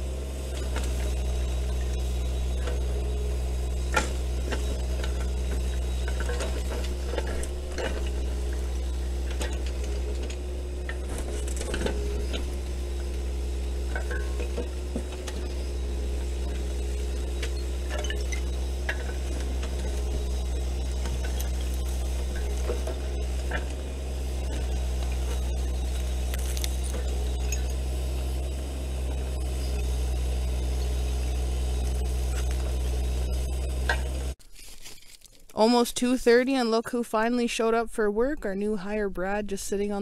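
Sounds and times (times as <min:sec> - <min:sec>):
engine idling: 0:00.0 - 0:34.4.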